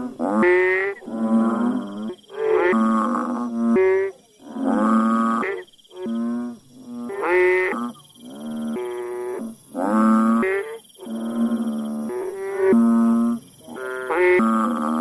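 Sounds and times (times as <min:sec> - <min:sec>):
frog calling: 0:00.0 - 0:15.0.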